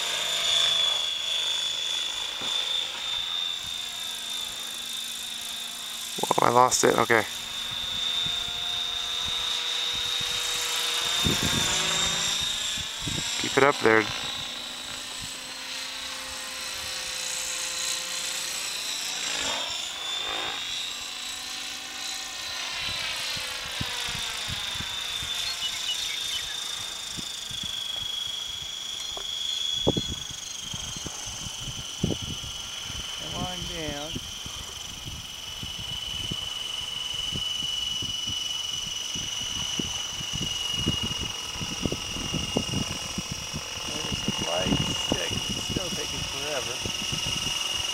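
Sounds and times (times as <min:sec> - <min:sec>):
rc helicopter high whine: 0:00.0 - 0:47.9.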